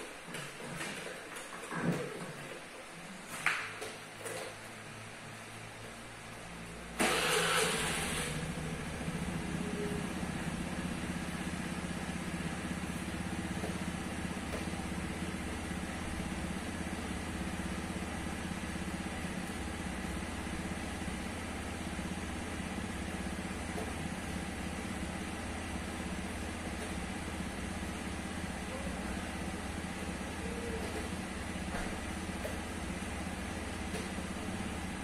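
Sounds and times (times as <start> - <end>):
scooter engine idling: 6.5 - 35.0.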